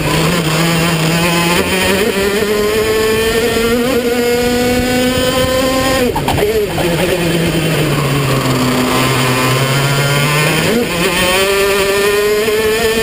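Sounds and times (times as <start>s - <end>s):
kart engine at full throttle: 0.0s - 13.0s.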